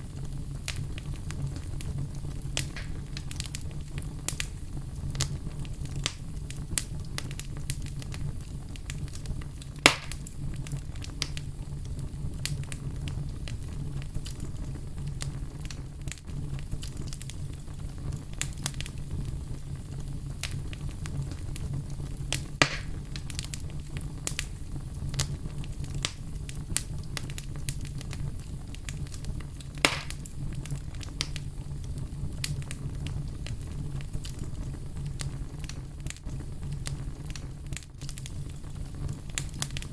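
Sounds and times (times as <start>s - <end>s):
fire crackling: 0.0s - 39.9s
loud fire snaps: 0.0s - 39.9s.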